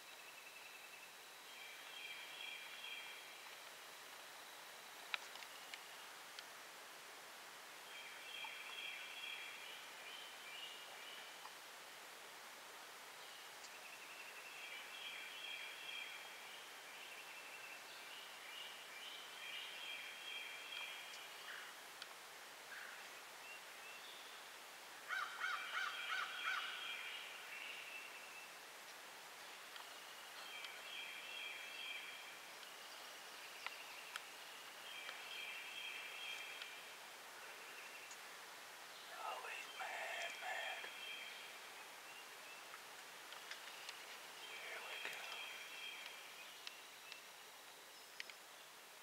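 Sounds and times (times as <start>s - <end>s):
faint woodland ambience: 0.0s - 49.0s.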